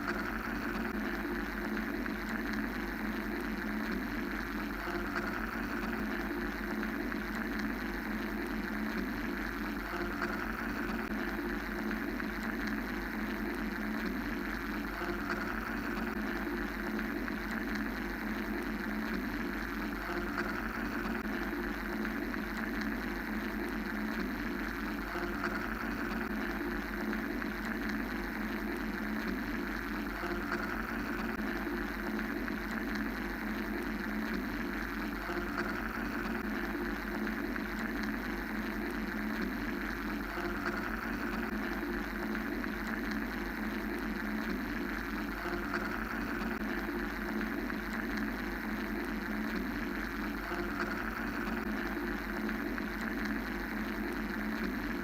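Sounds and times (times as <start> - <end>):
mechanical white-noise drone: 0.0 - 55.0.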